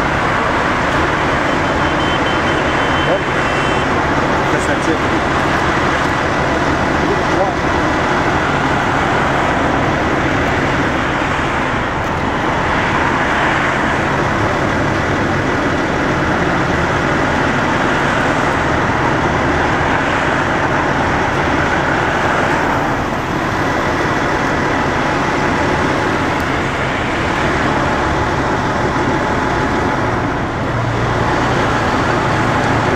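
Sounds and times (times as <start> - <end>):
highway traffic passing: 0.0 - 32.9.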